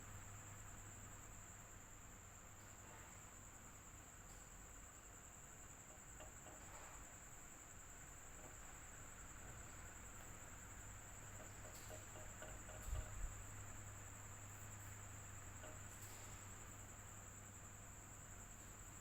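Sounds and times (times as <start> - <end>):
electric fan whine and hum: 0.0 - 19.0.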